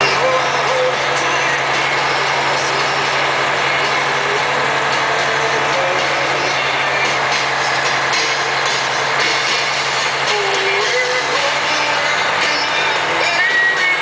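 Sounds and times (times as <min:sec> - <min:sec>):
tyre and road noise: 0:00.0 - 0:14.0
vehicle engine hum: 0:00.0 - 0:14.0.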